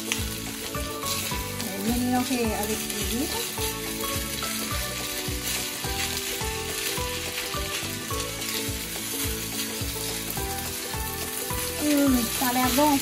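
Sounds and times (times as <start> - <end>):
metal spoon stirring in pan: 0.0 - 13.0
rice sizzling in frying pan: 0.0 - 13.0.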